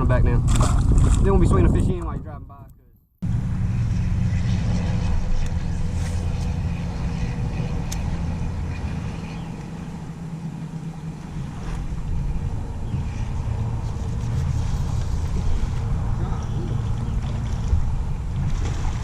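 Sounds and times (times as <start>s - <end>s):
vehicle engine rumbling: 3.2s - 19.0s.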